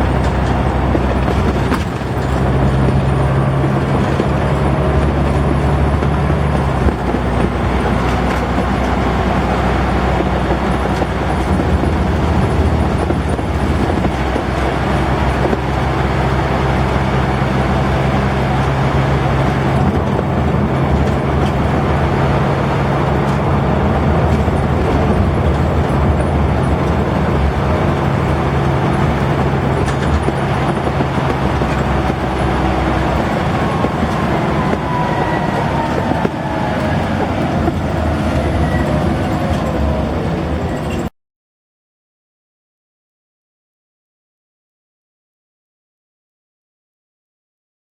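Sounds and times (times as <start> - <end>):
bus diesel engine droning: 0.0 - 41.1
road and body noise: 0.0 - 41.1.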